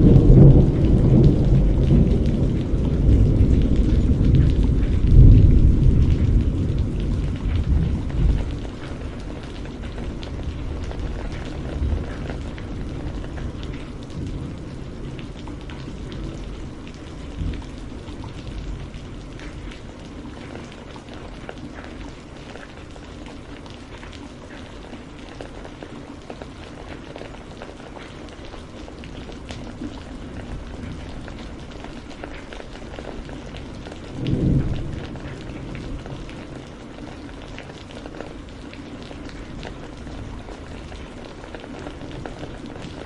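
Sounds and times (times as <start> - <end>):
rain falling: 0.0 - 43.0
raindrops ticking: 0.0 - 43.0.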